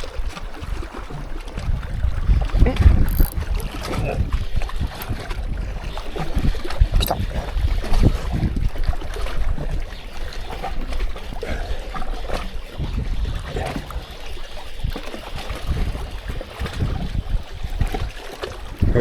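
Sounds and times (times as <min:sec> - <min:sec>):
water splashing and trickling: 0:00.0 - 0:19.0
wind buffeting microphone: 0:00.0 - 0:19.0.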